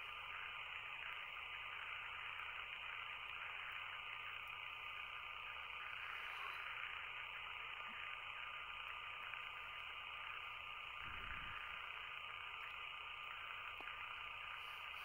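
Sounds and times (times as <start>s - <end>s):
background hiss: 0.0s - 15.0s
faint high whine: 0.0s - 15.0s.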